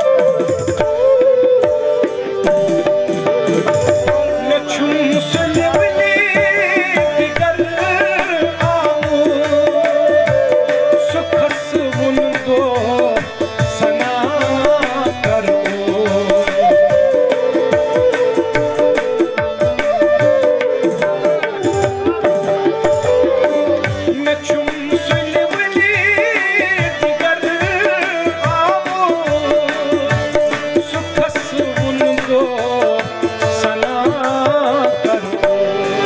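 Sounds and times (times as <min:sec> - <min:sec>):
held melody line: 0:00.0 - 0:36.0
tabla drumming: 0:00.0 - 0:36.0.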